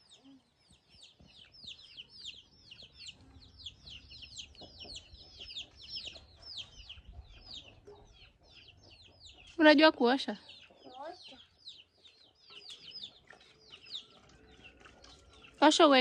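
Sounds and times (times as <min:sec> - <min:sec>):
chicks peeping: 0:00.0 - 0:09.6, 0:10.3 - 0:15.6.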